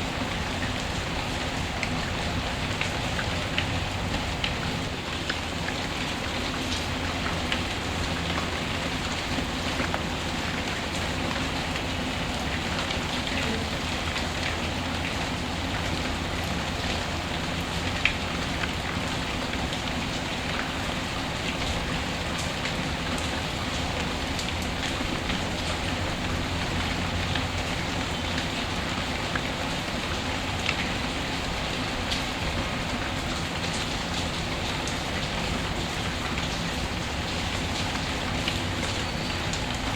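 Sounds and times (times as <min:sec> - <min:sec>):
steady rain hiss: 0:00.0 - 0:39.9
ticks of raindrops: 0:00.0 - 0:39.9.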